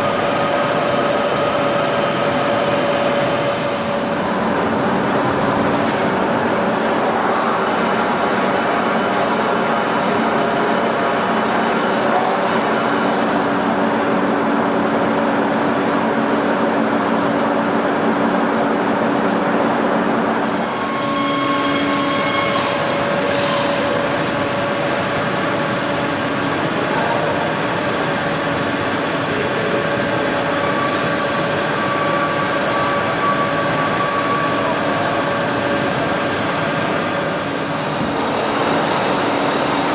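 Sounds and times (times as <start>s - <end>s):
boring and milling machine running: 0.0s - 39.9s.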